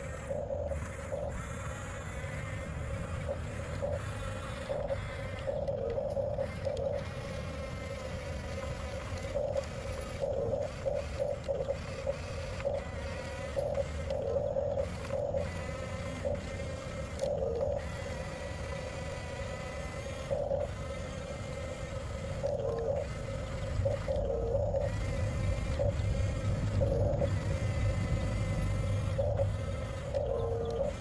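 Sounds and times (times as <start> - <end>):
electric motors whining: 0.0 - 31.0.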